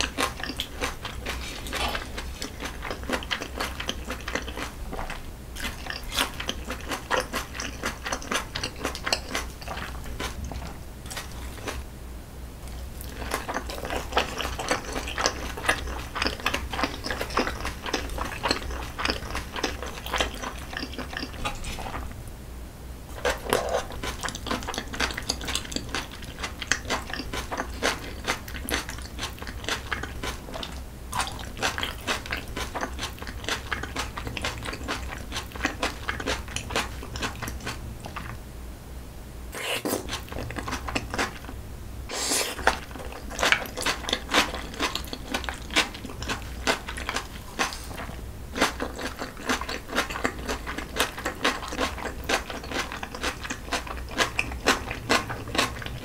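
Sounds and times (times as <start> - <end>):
chewing and biting food: 0.0 - 11.9, 12.6 - 22.1, 23.1 - 38.4, 39.6 - 56.0.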